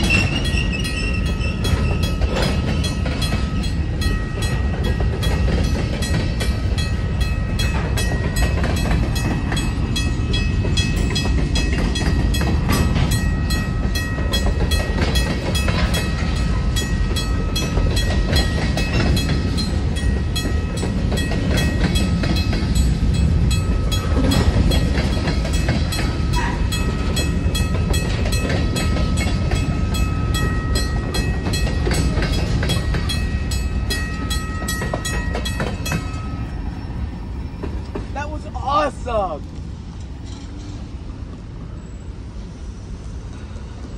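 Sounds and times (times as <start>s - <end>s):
wheels clicking over rail joints: 0.0s - 41.4s
freight train rumbling past: 0.0s - 43.9s.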